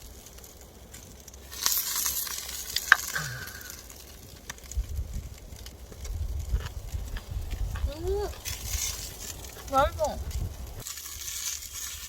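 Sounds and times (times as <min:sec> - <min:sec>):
loud hissing: 0:00.0 - 0:12.0
meat sizzling on hot stone: 0:00.0 - 0:12.0.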